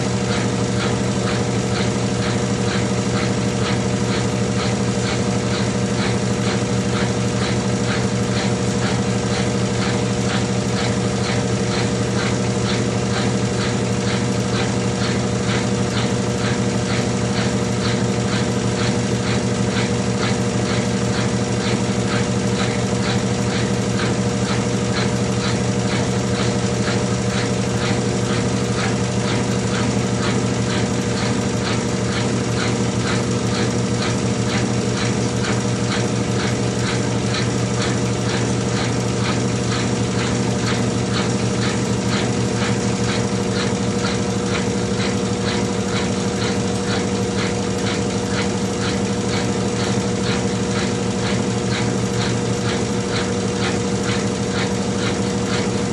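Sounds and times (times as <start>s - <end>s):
washing machine spinning: 0.0s - 55.9s.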